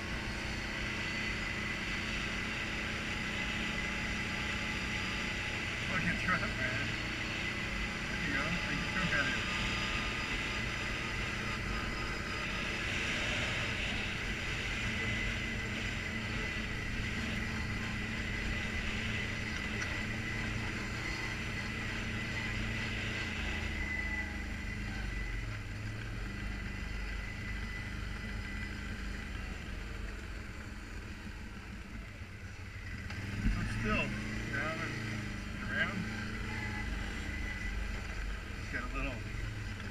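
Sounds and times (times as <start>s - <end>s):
atv engine running: 0.0s - 39.9s
steady high whine: 0.0s - 39.9s.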